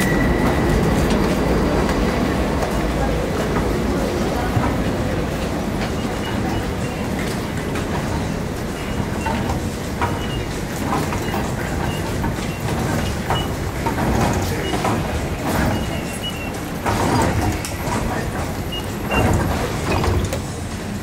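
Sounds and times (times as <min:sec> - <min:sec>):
station rumble: 0:00.0 - 0:21.0.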